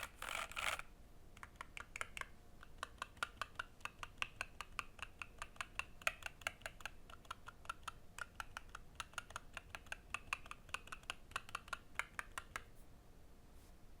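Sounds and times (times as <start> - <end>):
fast typing on mechanical keyboard: 1.4 - 12.6.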